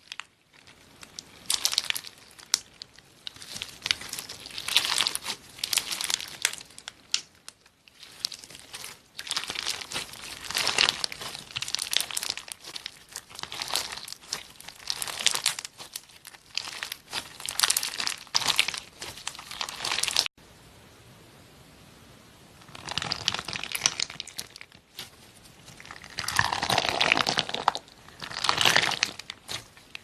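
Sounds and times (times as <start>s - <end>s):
slime crackling and popping: 0.0s - 20.3s, 22.6s - 30.0s.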